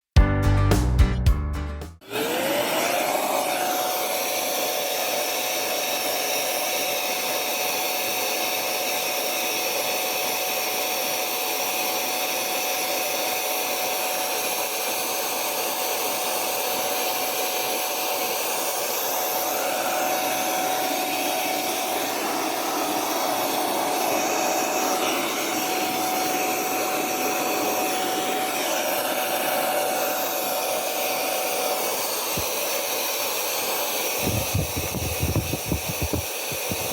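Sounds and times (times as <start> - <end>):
electric blower motor whining: 2.0 - 36.9.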